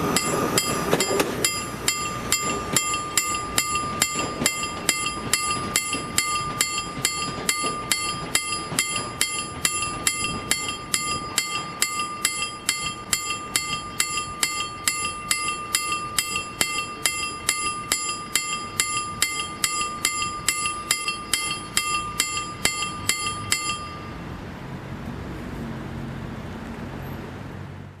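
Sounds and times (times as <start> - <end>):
railway crossing bell ringing: 0.0 - 24.8.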